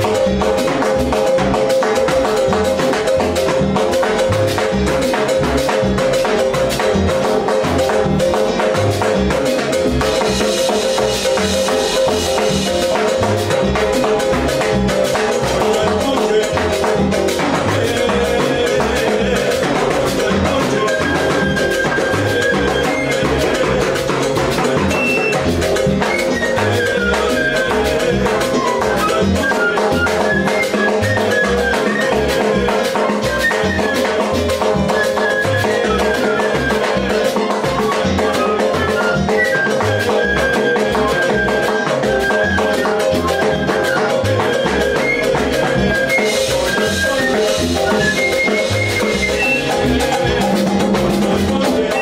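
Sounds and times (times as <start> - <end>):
melodic line: 0.0 - 40.6, 41.5 - 52.0
salsa band rhythm: 0.0 - 52.0
timbales played with sticks: 0.0 - 52.0.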